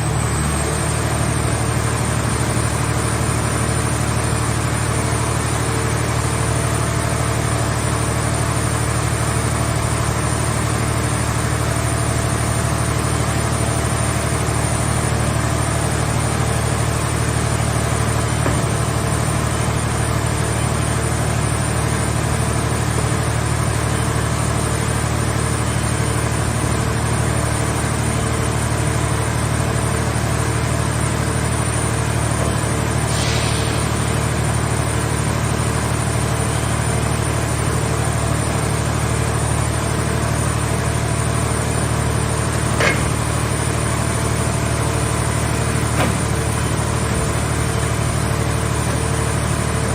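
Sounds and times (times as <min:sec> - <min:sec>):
baler engine idling: 0:00.0 - 0:49.9.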